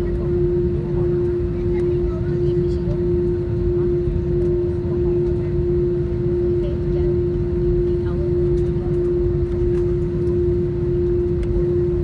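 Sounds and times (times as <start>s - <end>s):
aircraft engine hum: 0.0s - 12.0s.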